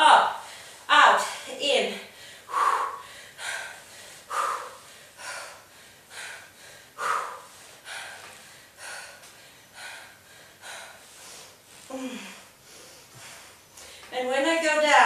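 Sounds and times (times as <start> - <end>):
woman breathing hard: 0.4 - 14.1.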